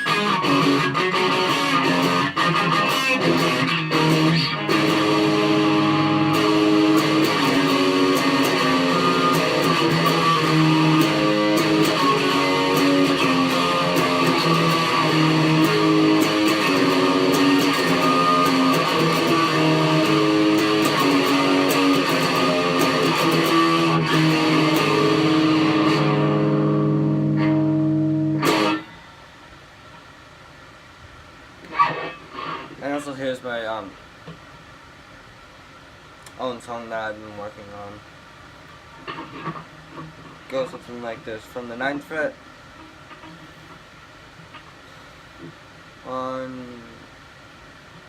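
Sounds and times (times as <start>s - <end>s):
electric guitar: 0.0s - 29.4s, 31.6s - 33.1s, 38.7s - 41.2s, 41.9s - 47.1s.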